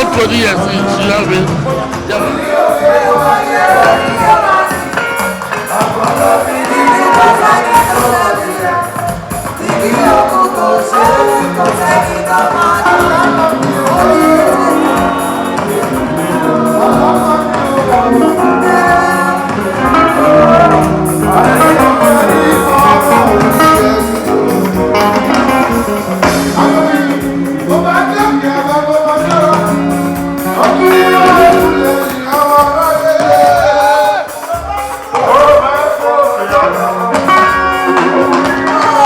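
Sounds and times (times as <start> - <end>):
band music: 0.0 - 39.0
guitar: 0.0 - 39.0
person singing: 0.0 - 39.0.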